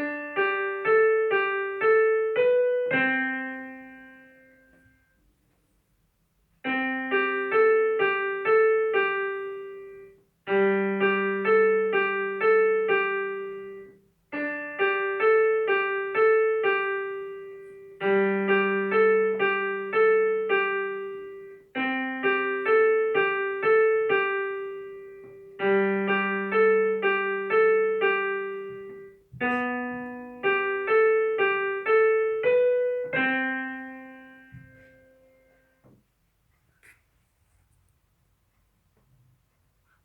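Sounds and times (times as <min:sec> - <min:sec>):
piano piece: 0:00.0 - 0:05.1, 0:06.6 - 0:36.0.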